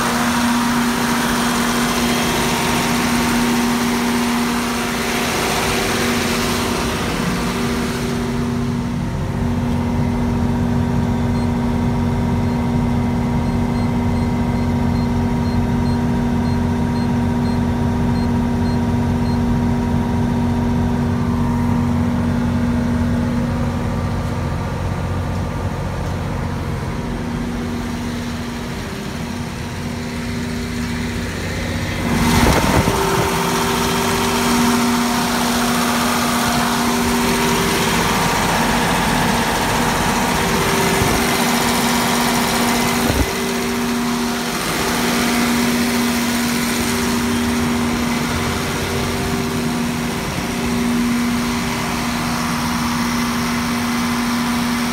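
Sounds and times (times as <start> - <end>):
diesel generator engine humming: 0.0 - 54.9.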